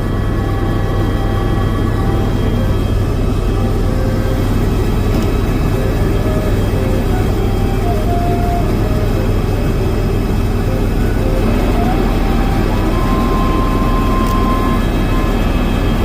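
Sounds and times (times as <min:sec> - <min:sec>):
helicopter engine and rotor drone: 0:00.0 - 0:16.0.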